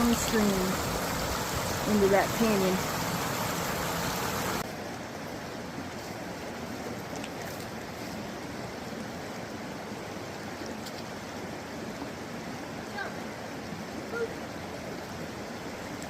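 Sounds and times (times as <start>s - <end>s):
creek water flowing over rocks: 0.0s - 16.0s.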